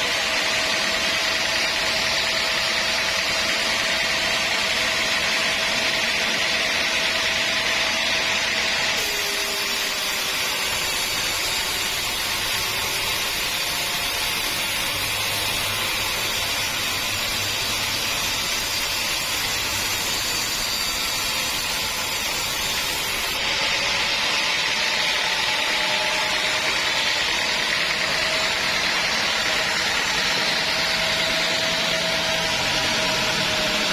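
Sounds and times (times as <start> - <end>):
sawmill saw cutting logs: 0.0 - 33.9.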